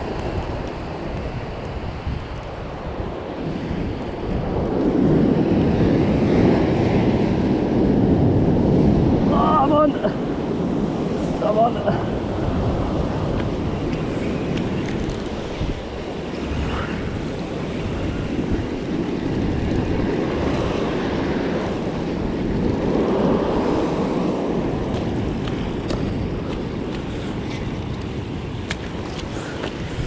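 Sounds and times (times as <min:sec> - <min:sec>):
ocean surf breaking over rocks: 0:00.0 - 0:30.0
wind buffeting microphone: 0:00.0 - 0:30.0.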